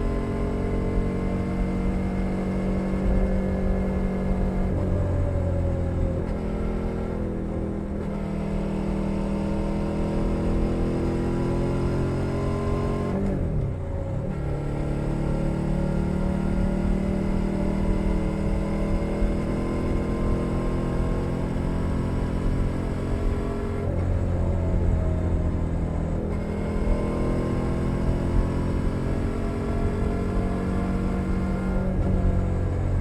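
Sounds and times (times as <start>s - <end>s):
motorcycle engine while riding: 0.0s - 33.0s.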